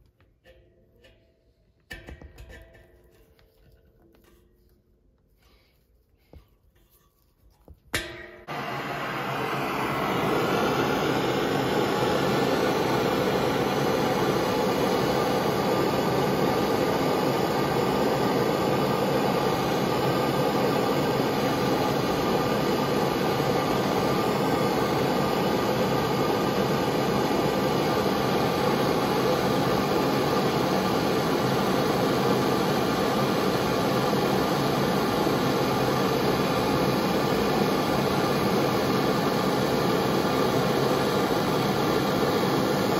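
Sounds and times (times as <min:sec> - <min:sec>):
gas torch hissing: 0:08.4 - 0:42.9.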